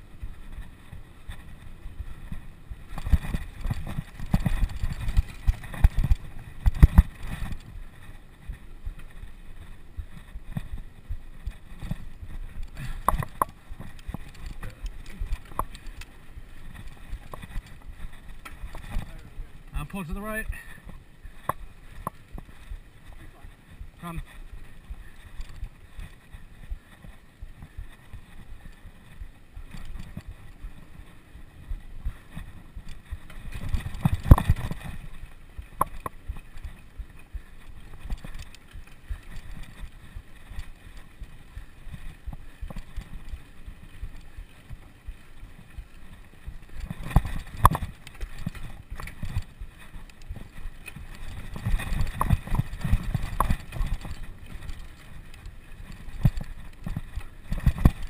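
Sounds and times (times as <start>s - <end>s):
bicycle rattling over rough ground: 0.0s - 58.0s.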